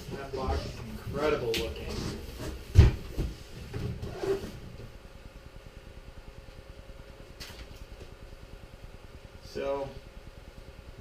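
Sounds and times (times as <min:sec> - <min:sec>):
faint hum with high tone: 0:00.0 - 0:11.0.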